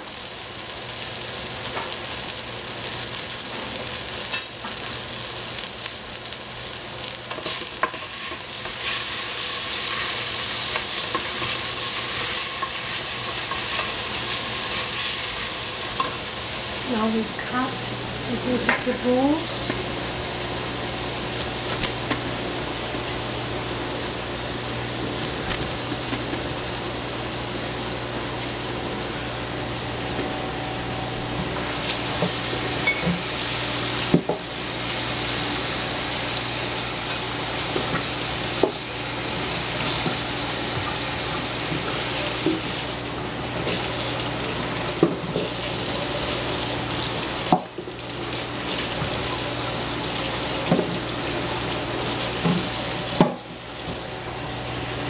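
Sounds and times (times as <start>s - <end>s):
food sizzling in frying pan: 0.0s - 55.0s.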